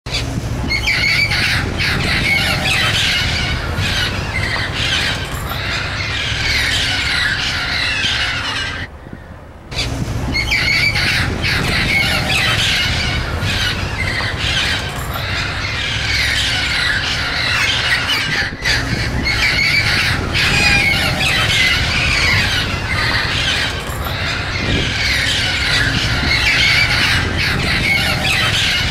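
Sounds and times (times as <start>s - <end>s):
parrots squawking and screeching: 0.1s - 28.9s.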